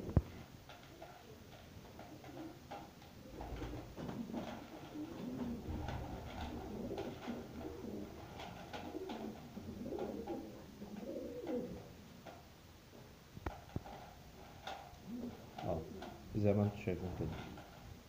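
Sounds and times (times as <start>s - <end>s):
pigeons cooing: 0.0s - 12.3s, 13.6s - 16.3s.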